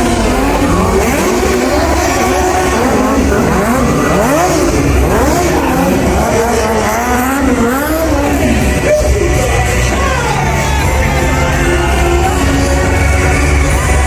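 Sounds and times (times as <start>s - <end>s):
engines revving: 0.0s - 14.0s.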